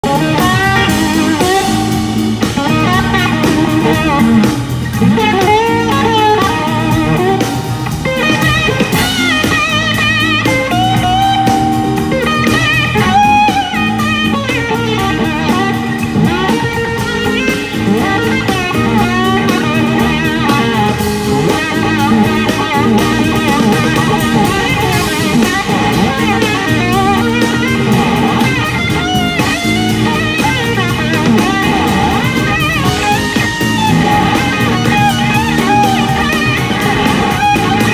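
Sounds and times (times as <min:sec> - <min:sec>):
drums: 0:00.0 - 0:37.9
electric slide guitar solo: 0:00.0 - 0:37.9
second electric guitar: 0:00.0 - 0:37.9.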